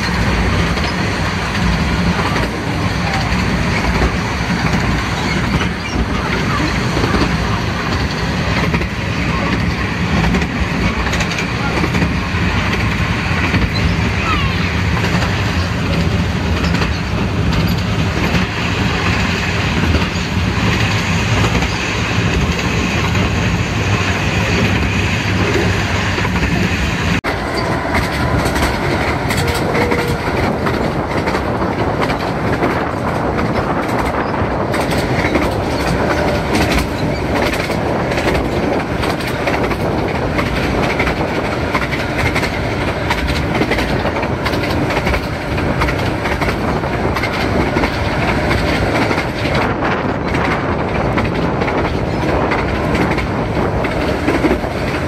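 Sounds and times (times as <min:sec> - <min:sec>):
train running noise: 0:00.0 - 0:55.0
wheels clicking over rails: 0:00.0 - 0:55.0.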